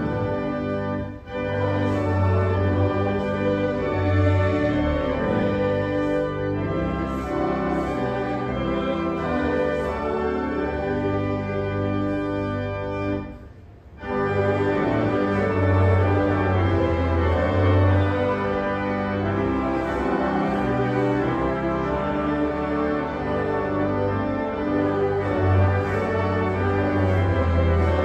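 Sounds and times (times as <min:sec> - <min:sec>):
organ playing sustained chords: 0:00.0 - 0:28.0.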